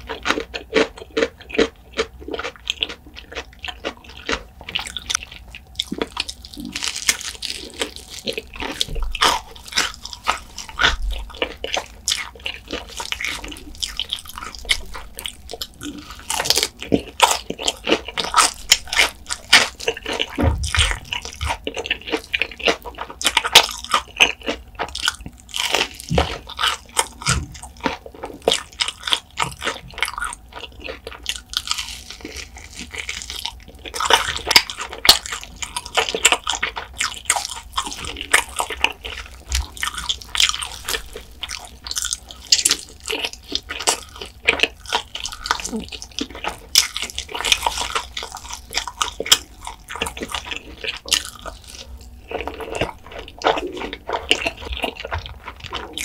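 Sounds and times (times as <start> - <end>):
crunchy biting and chewing: 0.0 - 56.0.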